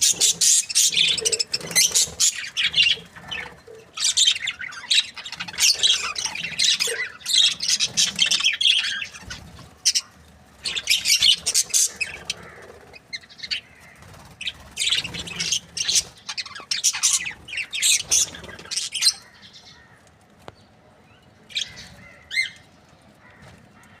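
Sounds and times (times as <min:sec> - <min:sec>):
budgerigars chirping: 0:00.0 - 0:19.8.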